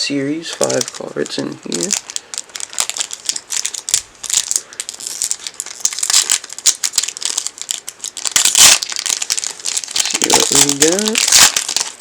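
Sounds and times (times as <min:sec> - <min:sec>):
wrapper crinkling and tearing: 0:00.4 - 0:12.0.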